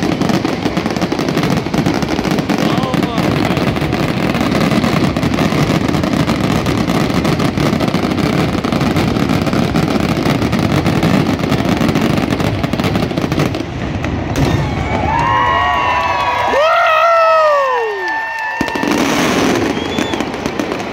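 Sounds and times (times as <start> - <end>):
fireworks booming and crackling: 0.0 - 20.9.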